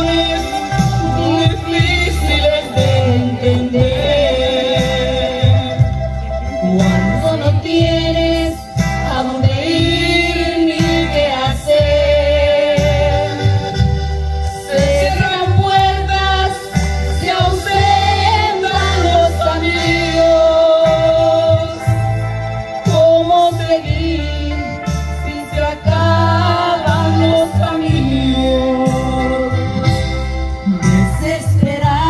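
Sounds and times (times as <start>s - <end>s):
woman singing with vibrato: 0.0s - 5.9s, 6.5s - 13.7s, 14.6s - 22.2s, 22.8s - 29.9s, 30.6s - 32.0s
instrumental backing with bass: 0.0s - 32.0s.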